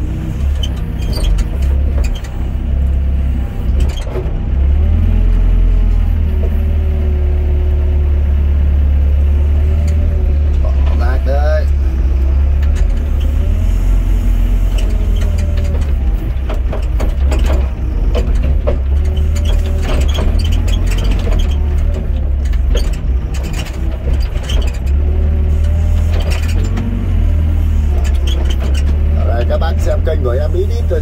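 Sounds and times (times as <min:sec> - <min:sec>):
excavator diesel engine running: 0:00.0 - 0:31.0
hydraulics whining: 0:00.0 - 0:31.0.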